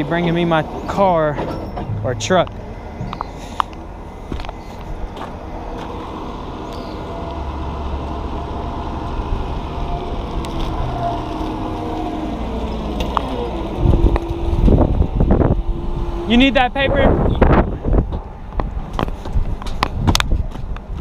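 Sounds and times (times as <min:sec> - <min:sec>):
wheel loader diesel engine: 0:00.0 - 0:21.0.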